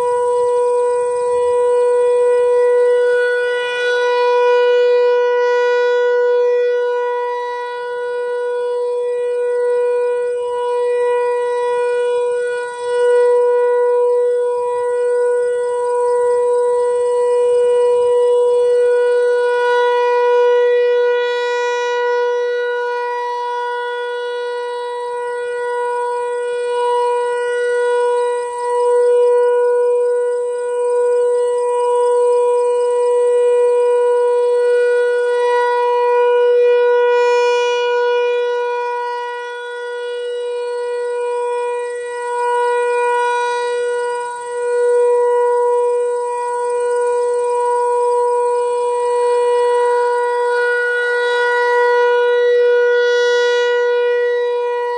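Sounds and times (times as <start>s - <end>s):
rotating warning siren: 0.0s - 54.9s.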